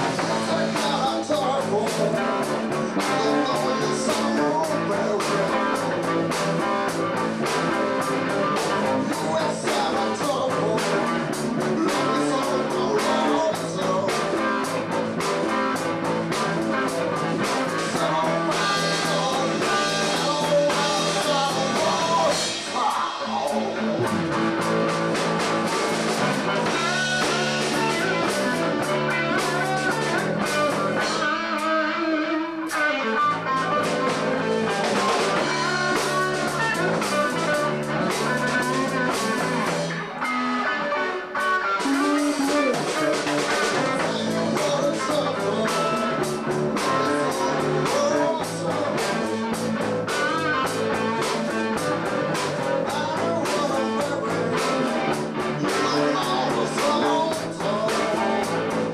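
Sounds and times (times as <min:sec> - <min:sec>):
bass guitar: 0:00.0 - 0:58.9
drum kit beat: 0:00.0 - 0:58.9
electric guitar: 0:00.0 - 0:58.9.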